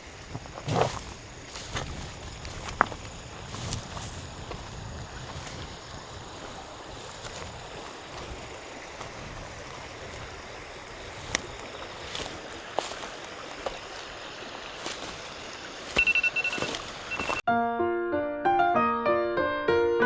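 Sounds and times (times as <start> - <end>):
river water flowing: 0.0 - 17.4.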